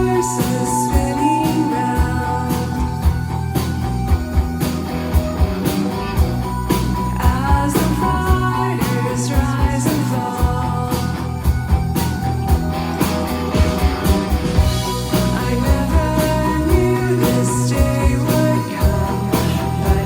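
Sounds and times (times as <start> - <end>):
steady drum beat: 0.0 - 20.0
synth-pop band playing live: 0.0 - 20.0.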